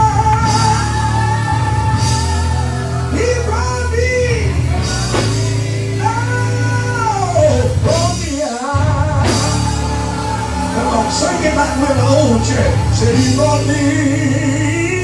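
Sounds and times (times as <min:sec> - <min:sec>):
gospel band with singing: 0:00.0 - 0:15.0.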